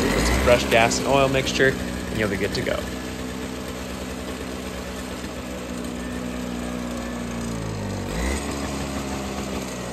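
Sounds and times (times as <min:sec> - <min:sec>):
snowblower engine running: 0:00.0 - 0:09.9.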